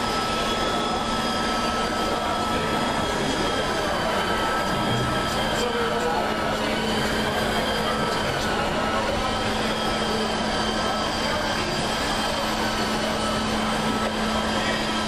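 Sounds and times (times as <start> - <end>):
ship machinery low hum: 0.0 - 15.0.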